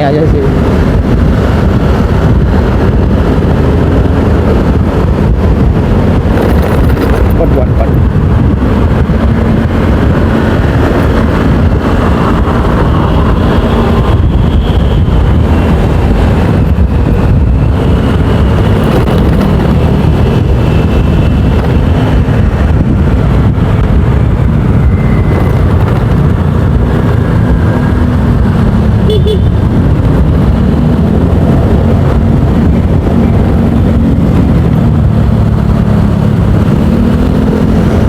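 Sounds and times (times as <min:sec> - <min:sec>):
motorcycle engine rumble: 0:00.0 - 0:38.0
wind buffeting microphone: 0:00.0 - 0:38.0.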